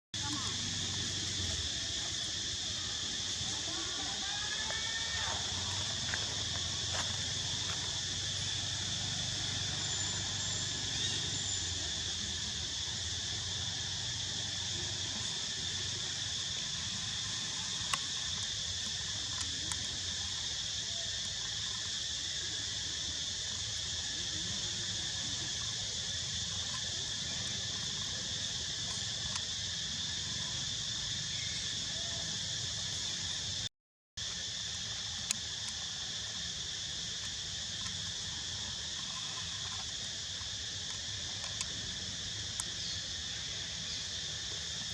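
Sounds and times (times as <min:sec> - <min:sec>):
insects chorus drone: 0:00.2 - 0:44.9.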